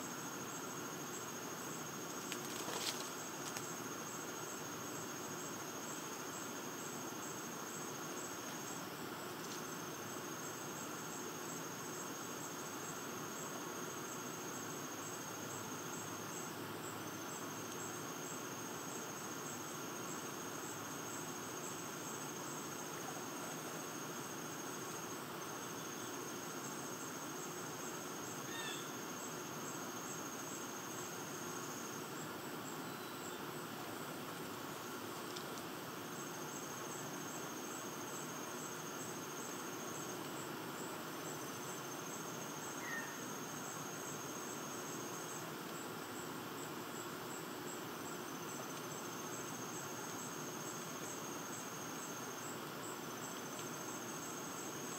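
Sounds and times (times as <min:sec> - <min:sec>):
high-pitched insect trill: 0:00.0 - 0:54.9
insects hissing: 0:00.0 - 0:54.9.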